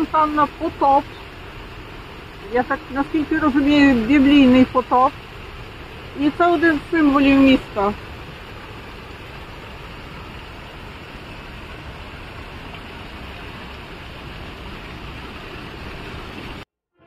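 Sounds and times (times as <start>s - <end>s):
fountain water splashing: 0.0s - 16.6s.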